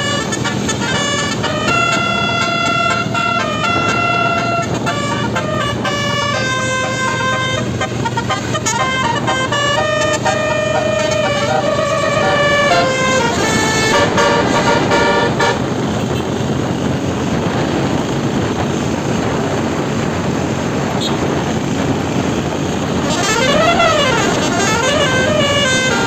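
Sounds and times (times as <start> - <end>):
bus horn playing a tune: 0.0 - 17.9, 20.9 - 26.0.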